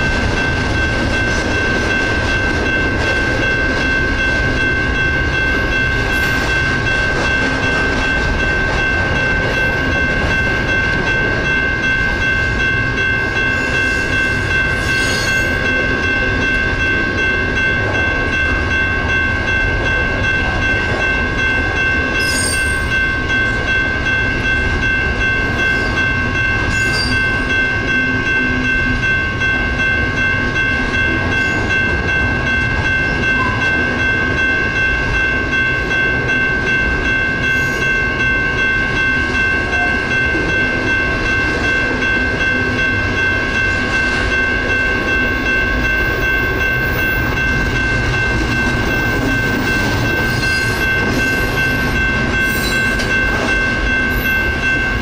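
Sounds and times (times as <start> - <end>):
crossing signal bells ringing: 0.0 - 55.0
freight train cars rolling: 0.0 - 55.0
train clanks: 0.0 - 55.0.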